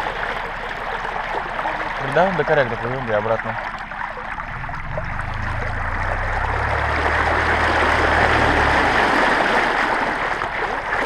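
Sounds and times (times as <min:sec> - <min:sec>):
low motor hum: 0:00.0 - 0:11.0
water rushing along hull: 0:00.0 - 0:11.0.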